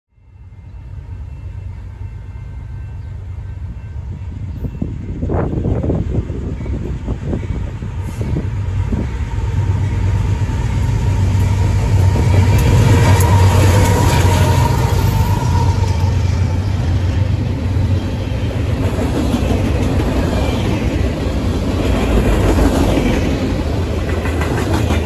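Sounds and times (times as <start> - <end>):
diesel locomotive drone: 0.1 - 25.0.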